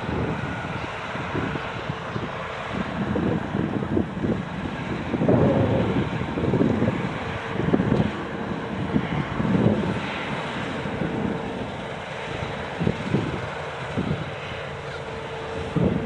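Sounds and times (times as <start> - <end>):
distant combine harvester drone: 0.0 - 16.0
wind gusting on microphone: 0.0 - 16.0.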